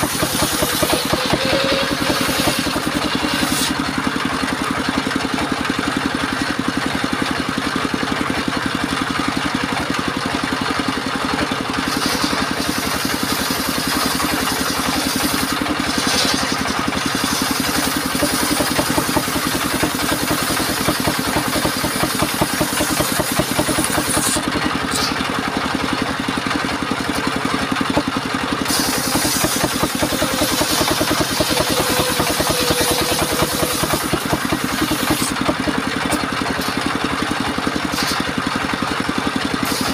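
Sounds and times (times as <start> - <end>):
saw mill engine running: 0.0 - 39.9.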